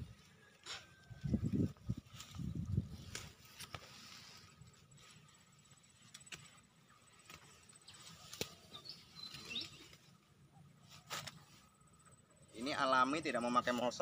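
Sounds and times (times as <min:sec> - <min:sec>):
faint rustling of plants: 0:00.0 - 0:14.0.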